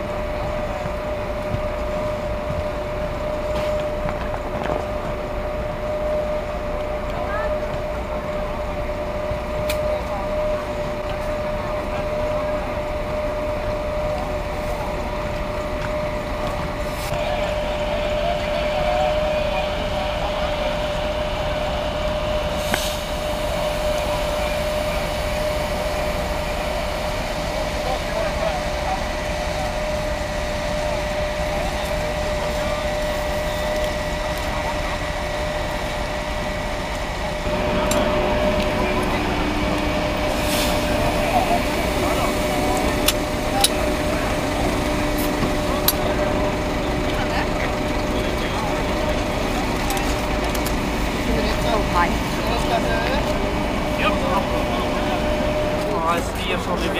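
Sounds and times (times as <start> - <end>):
emergency vehicle engines idling: 0.0 - 56.9
motor droning with whine: 0.0 - 56.9.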